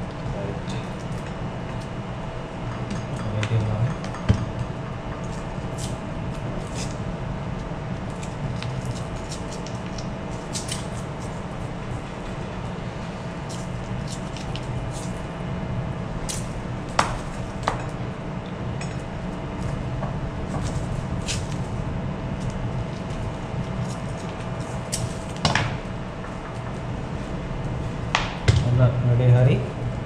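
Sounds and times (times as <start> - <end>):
ship machinery drone: 0.0 - 30.0.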